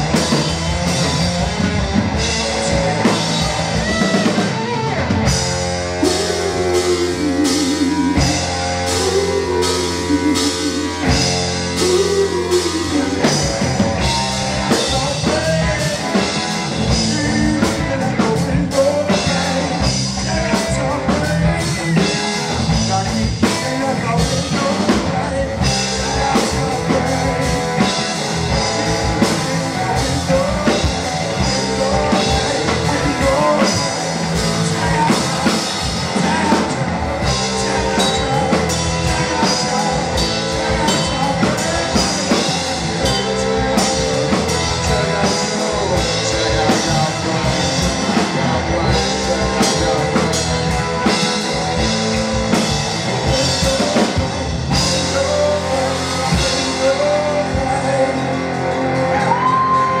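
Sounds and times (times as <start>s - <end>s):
drum kit: 0.0s - 60.0s
electric guitar: 0.0s - 60.0s
person singing: 0.0s - 60.0s.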